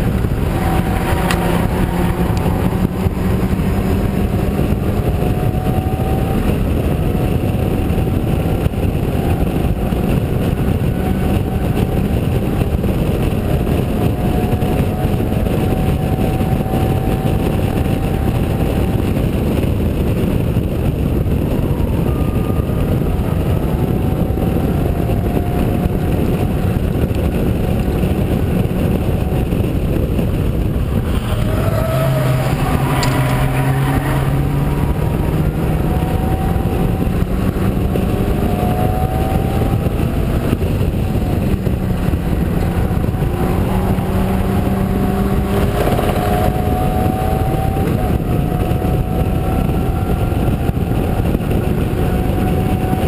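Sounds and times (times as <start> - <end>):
heavy wind rush: 0.0 - 53.0
racing car engine revving: 0.0 - 53.0.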